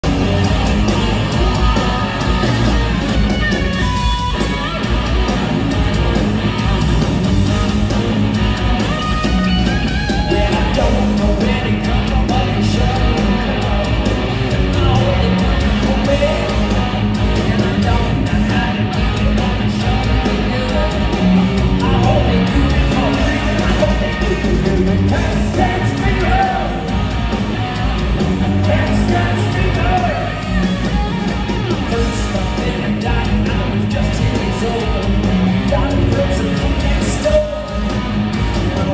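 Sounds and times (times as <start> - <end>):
live rock band playing loud: 0.0 - 38.9.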